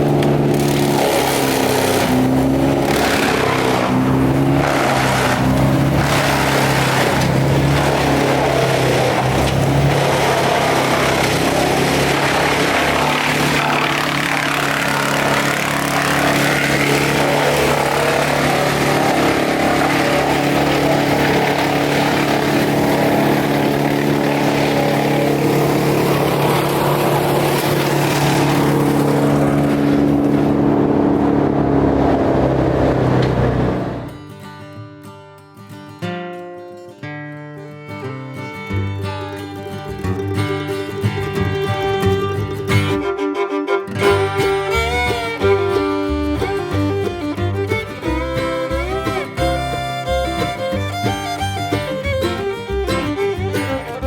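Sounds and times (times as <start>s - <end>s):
large engine running: 0.0s - 34.2s, 39.3s - 54.0s.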